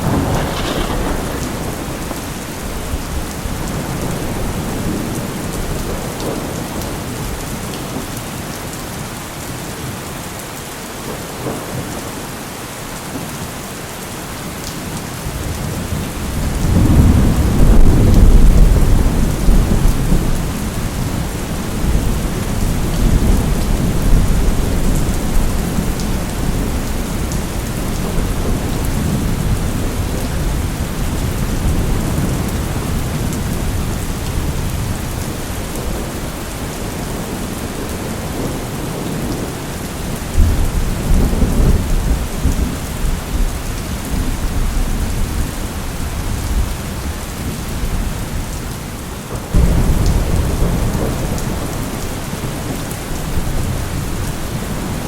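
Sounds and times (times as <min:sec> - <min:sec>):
thunder rumbling: 0:00.0 - 0:07.4, 0:15.4 - 0:48.4, 0:49.4 - 0:55.0
steady rain: 0:00.0 - 0:55.0.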